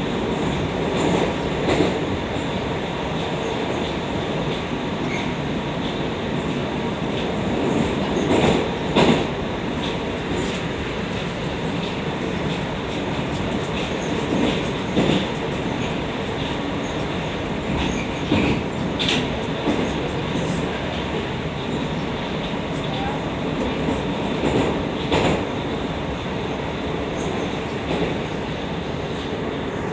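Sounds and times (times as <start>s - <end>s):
train rumble and hiss: 0.0s - 29.9s.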